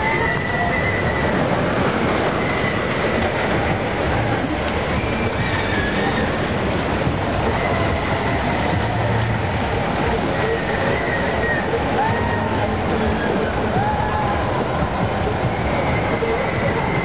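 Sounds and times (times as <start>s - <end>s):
rail wheels rumbling: 0.0s - 17.0s
wheels squealing on track: 0.0s - 17.0s.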